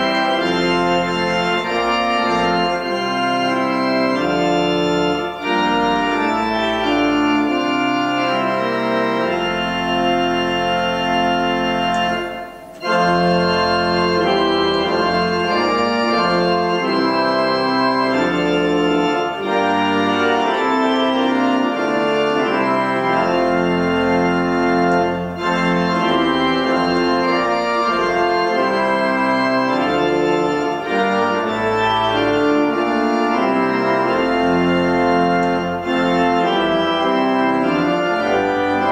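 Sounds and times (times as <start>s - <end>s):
organ playing hymn chords: 0.0s - 38.9s.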